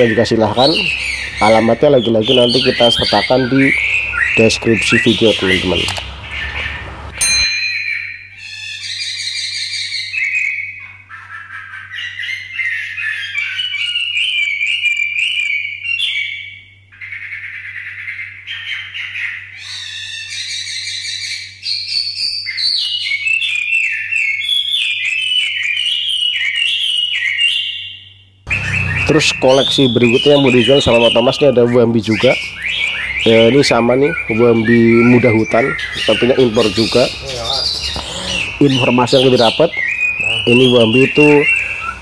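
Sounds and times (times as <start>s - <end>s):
songbird whistling phrases: 0.0s - 6.9s, 7.9s - 42.0s.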